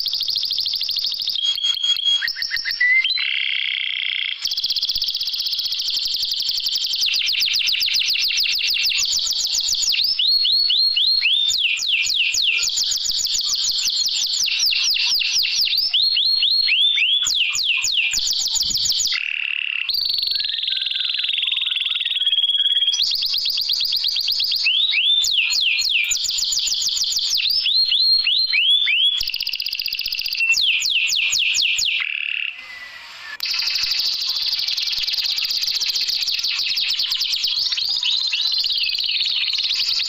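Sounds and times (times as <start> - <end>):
repeated sliding whistles: 0.0 - 3.3, 4.4 - 40.0
canary trills: 0.0 - 40.0.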